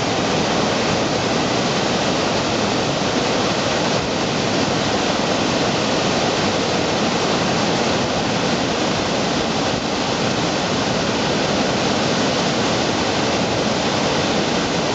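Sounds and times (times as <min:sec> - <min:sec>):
water rushing over weir: 0:00.0 - 0:14.9.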